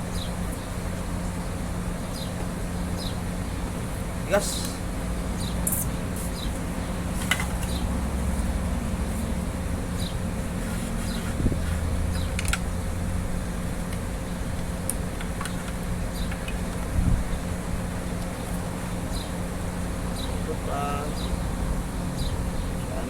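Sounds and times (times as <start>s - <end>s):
machine hum with low drone: 0.0s - 23.0s.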